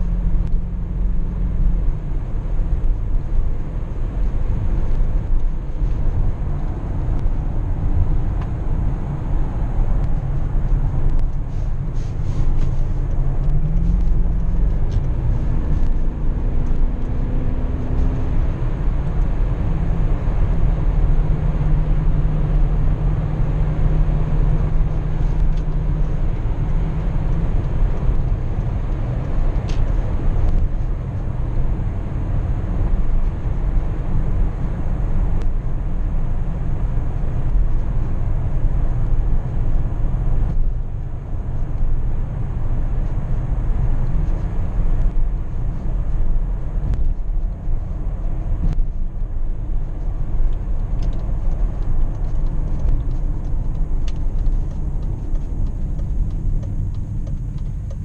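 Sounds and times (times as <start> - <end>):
car engine droning: 0.0 - 58.0
road and tyre rumble: 0.0 - 58.0.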